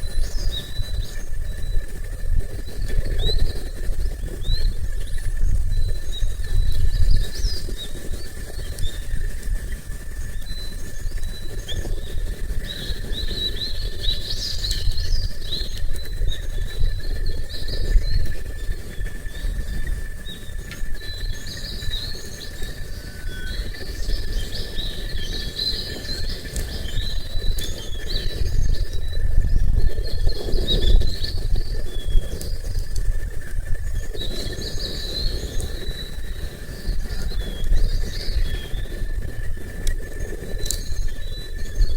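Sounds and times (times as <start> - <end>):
small birds chirping: 0.0 - 41.9
steady low rumble: 0.0 - 41.9.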